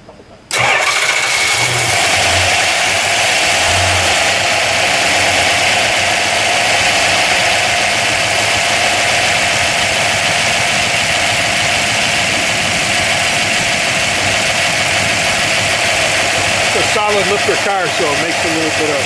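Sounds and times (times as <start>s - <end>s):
engine idling with valve ticking: 0.5s - 19.0s.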